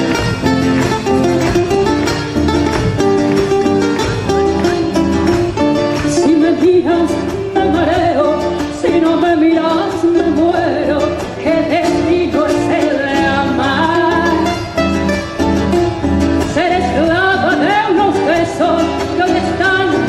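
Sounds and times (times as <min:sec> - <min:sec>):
person singing folk song: 0:00.0 - 0:20.0
plucked guitar: 0:00.0 - 0:20.0.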